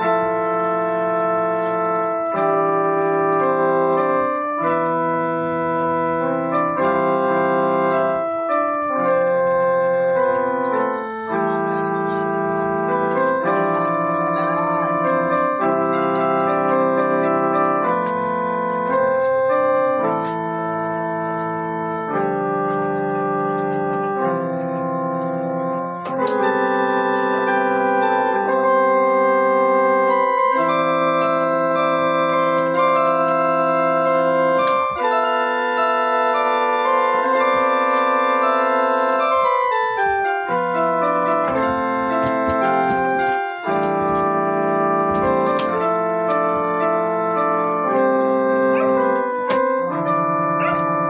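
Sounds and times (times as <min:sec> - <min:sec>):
electronic keyboard chords: 0:00.0 - 0:51.0.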